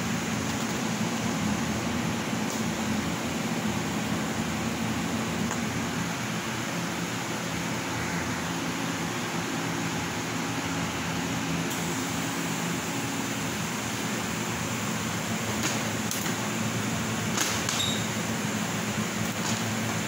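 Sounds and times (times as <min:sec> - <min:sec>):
fan noise with low hum: 0:00.0 - 0:20.0.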